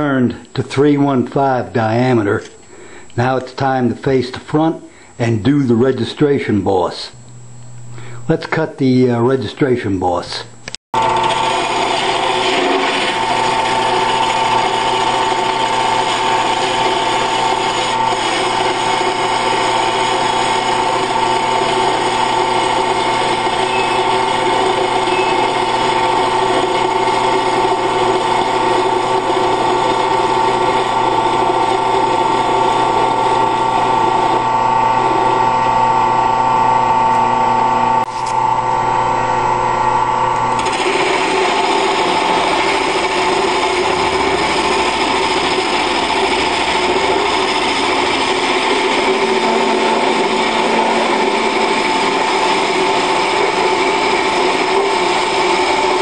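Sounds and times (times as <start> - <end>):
lathe motor humming: 11.0 - 56.0.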